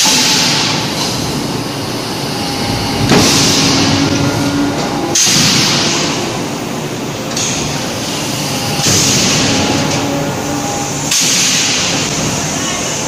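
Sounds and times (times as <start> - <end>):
forging press mechanical din: 0.0 - 12.5.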